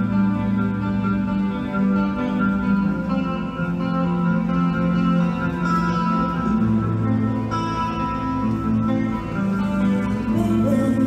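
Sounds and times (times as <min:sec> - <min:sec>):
guitar: 0:00.0 - 0:11.0
live band music: 0:00.0 - 0:11.0.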